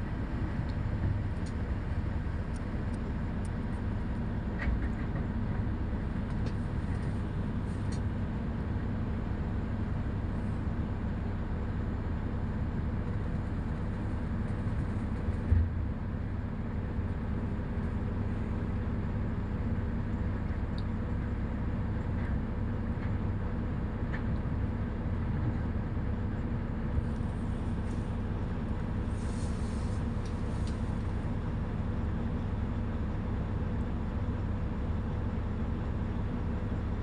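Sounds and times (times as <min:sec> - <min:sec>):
distant diesel truck engines rumbling: 0:00.0 - 0:37.0.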